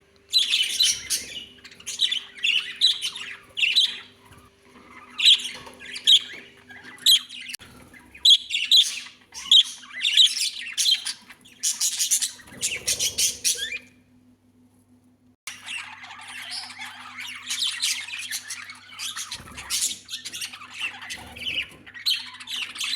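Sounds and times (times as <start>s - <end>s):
budgerigars squawking and chattering: 0.3s - 14.0s, 15.5s - 22.9s.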